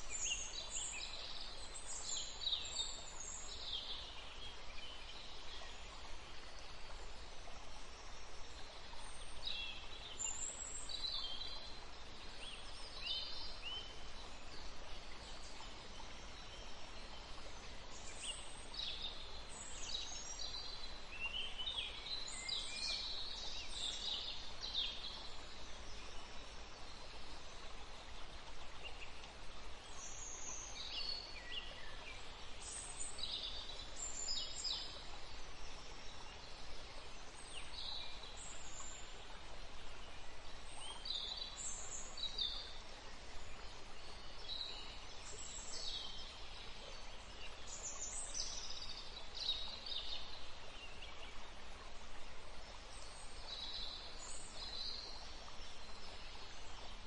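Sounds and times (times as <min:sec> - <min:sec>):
steady background hiss: 0:00.0 - 0:57.0.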